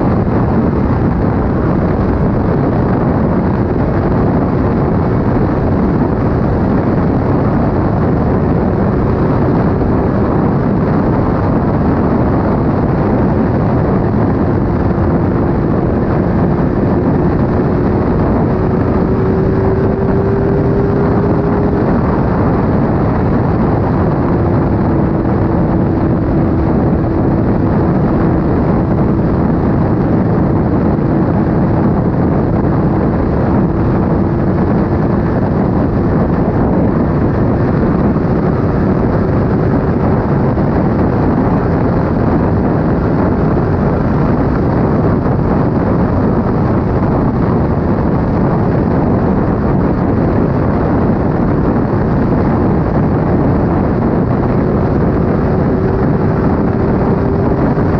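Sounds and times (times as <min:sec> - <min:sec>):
motorcycle engine cruising: 0:00.0 - 0:57.9
wind rush on microphone: 0:00.0 - 0:57.9.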